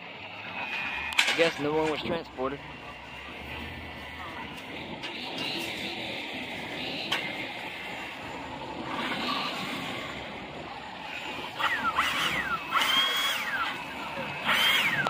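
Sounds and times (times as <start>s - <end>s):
outdoor background noise: 0.0s - 15.0s
hydraulic pump motor whining: 0.5s - 15.0s.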